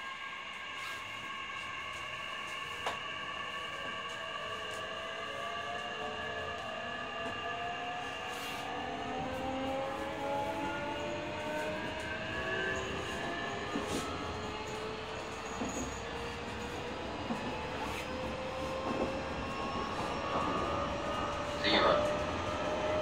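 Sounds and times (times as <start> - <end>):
train inverter whining tones: 0.0 - 23.0.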